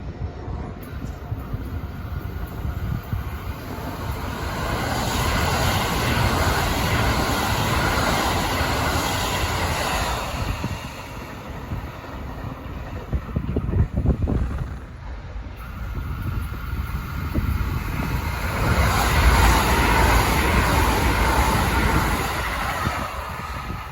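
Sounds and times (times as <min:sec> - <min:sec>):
train passing at speed: 0:00.0 - 0:23.9.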